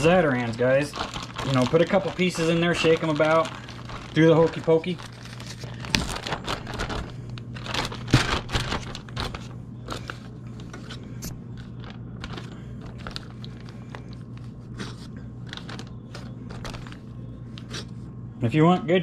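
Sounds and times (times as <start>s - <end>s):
plastic bag crinkling: 0.0s - 17.2s
steady low hum: 0.0s - 19.0s.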